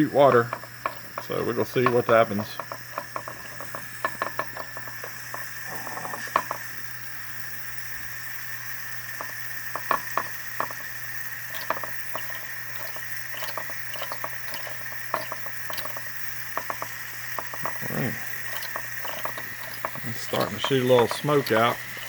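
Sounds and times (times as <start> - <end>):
steam engine popping and crackling: 0.0 - 22.0
steam hissing: 0.0 - 22.0.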